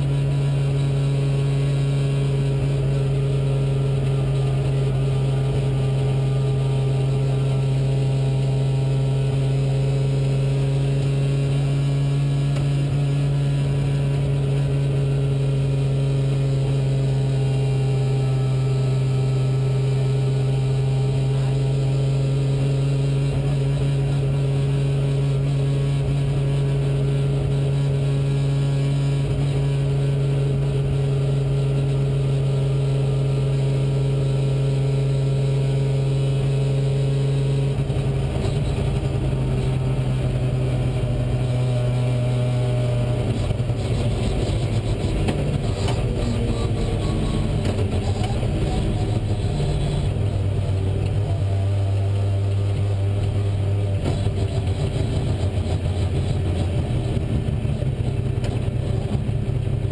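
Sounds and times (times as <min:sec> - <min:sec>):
car engine running steadily: 0:00.0 - 0:59.9
road and tyre noise: 0:00.0 - 0:59.9.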